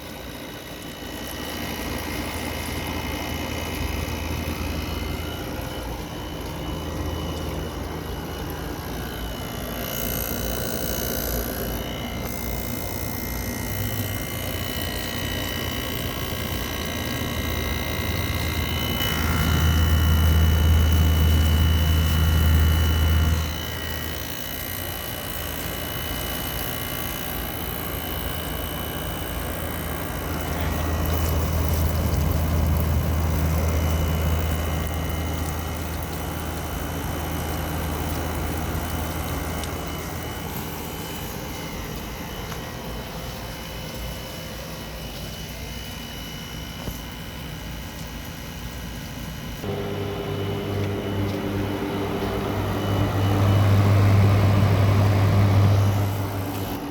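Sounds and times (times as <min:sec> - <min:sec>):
air conditioner running: 0:00.0 - 0:56.9.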